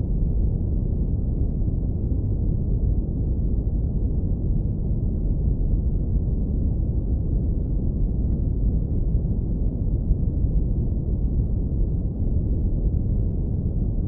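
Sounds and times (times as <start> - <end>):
low brown noise rumble: 0.0 - 14.0.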